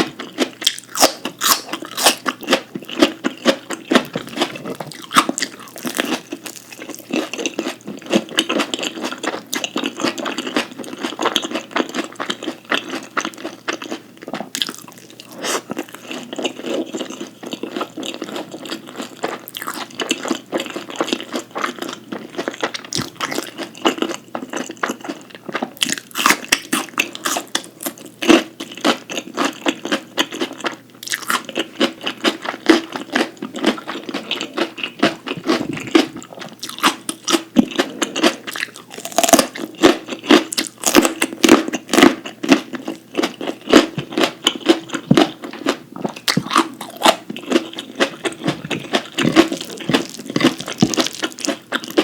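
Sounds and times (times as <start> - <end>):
person chewing crunchy food: 0.0 - 52.0.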